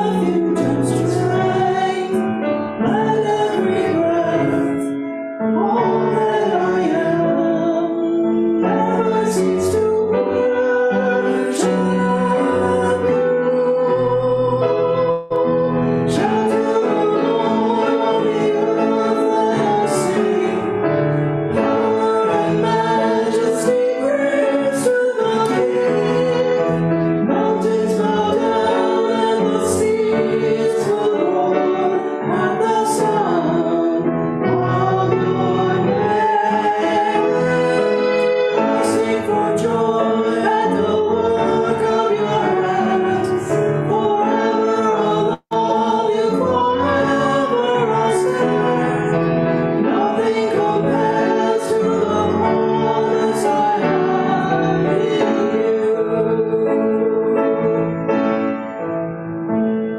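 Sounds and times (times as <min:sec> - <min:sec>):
hymn singing: 0:00.0 - 0:58.9
keyboard accompaniment: 0:00.0 - 0:59.9.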